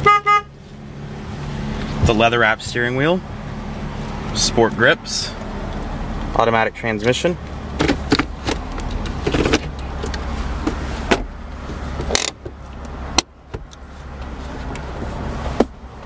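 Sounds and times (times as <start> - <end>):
car engine idling hum: 0.0 - 16.0.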